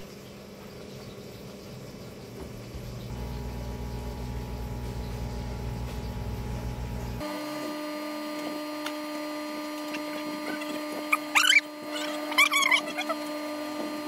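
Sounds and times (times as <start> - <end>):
steady hum with higher tones: 2.6 - 14.0.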